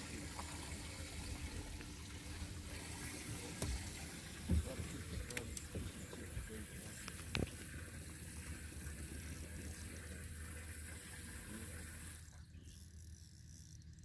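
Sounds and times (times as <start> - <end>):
rushing water: 0.0 - 12.0
low hum: 0.0 - 14.0.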